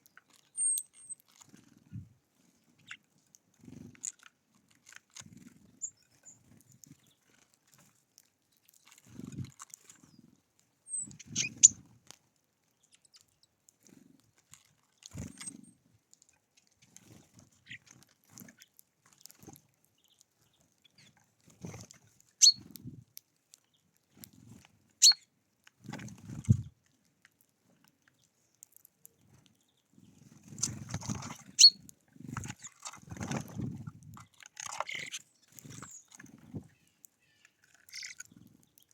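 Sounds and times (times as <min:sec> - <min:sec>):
birds pecking and scuffling: 0:00.0 - 0:38.9.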